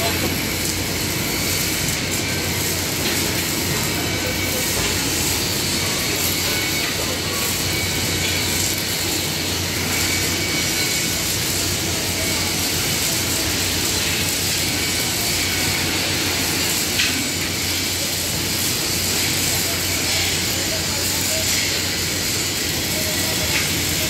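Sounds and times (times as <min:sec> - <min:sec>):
arc welding on steel: 0:00.0 - 0:24.0.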